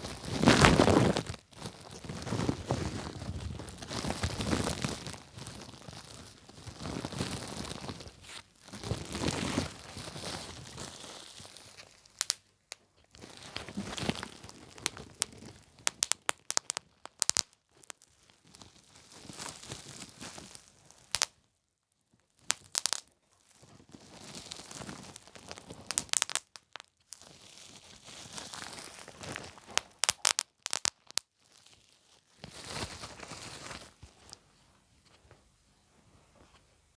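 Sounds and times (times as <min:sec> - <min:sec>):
bubble wrap crinkling: 0:00.0 - 0:21.4, 0:22.2 - 0:34.5
bubble wrap pops: 0:00.0 - 0:21.4, 0:22.4 - 0:34.4.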